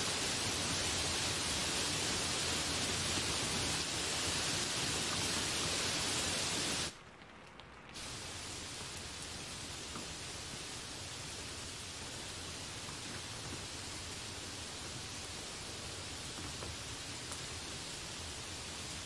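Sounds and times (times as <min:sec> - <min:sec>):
heavy rain on leaves: 0:00.0 - 0:19.0.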